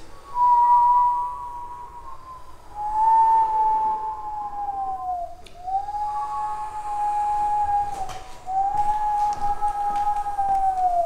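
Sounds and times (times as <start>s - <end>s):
person whistling sliding tones: 0.0s - 11.0s.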